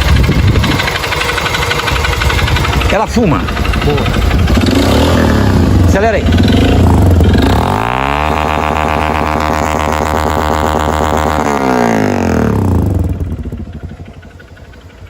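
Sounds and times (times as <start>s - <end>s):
engine knocking: 0.0s - 15.0s
motorcycle engine revving: 0.0s - 15.0s.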